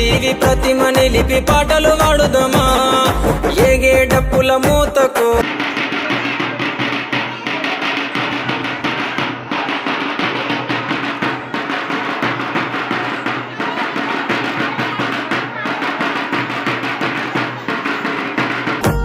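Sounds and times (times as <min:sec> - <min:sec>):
folk music with fast drumming: 0:00.0 - 0:19.0.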